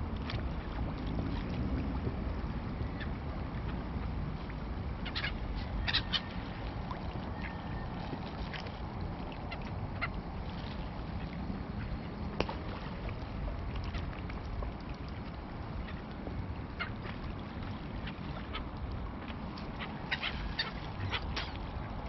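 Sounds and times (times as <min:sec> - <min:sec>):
river water washing: 0:00.0 - 0:22.0.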